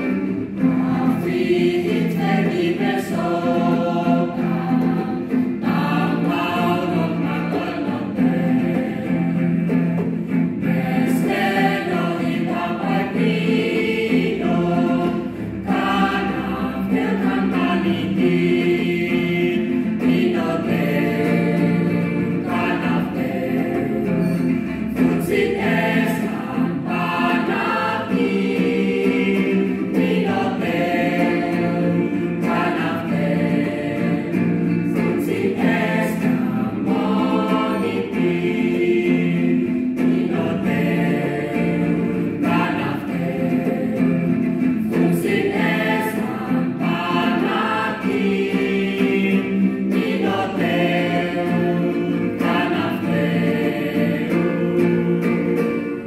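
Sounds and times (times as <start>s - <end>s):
acoustic guitar: 0.0s - 56.0s
choir singing a hymn: 0.0s - 56.0s.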